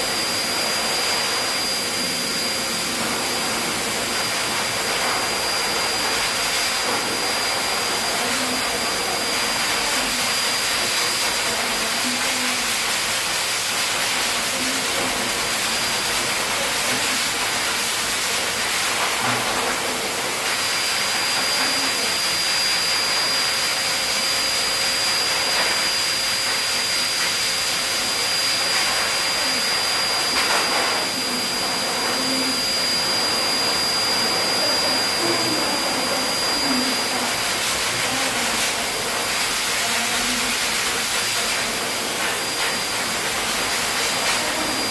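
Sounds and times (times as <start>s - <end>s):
dog blower running: 0.0s - 44.9s.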